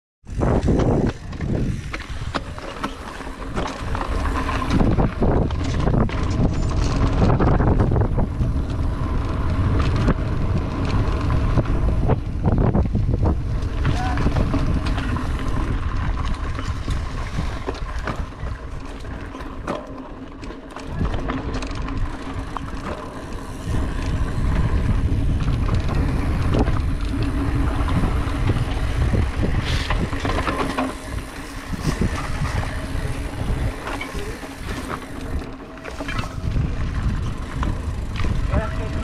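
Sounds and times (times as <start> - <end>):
wind buffeting microphone: 0.2 - 19.2, 20.9 - 39.0
bike rattling over bumps: 0.2 - 39.0
bike tyres on dirt: 0.2 - 39.0.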